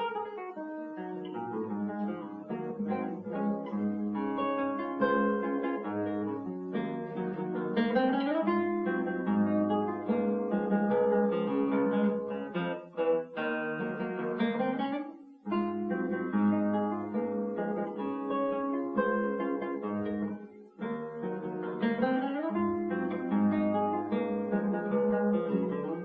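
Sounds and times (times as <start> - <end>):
fingerpicked classical guitar: 0.0 - 26.0.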